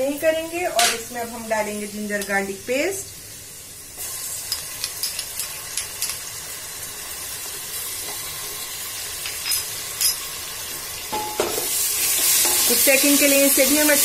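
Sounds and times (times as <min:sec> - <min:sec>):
oil sizzling in a pot: 0:00.0 - 0:14.0.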